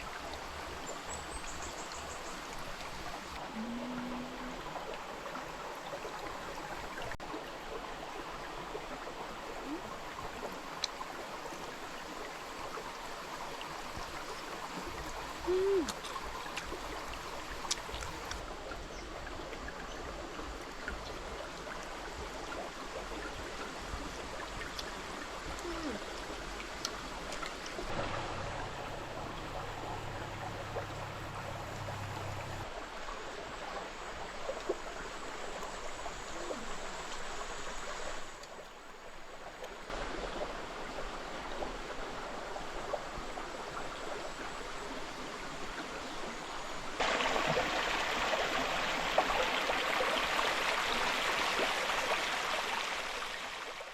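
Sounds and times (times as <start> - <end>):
stream trickling over rocks: 0.0 - 53.9.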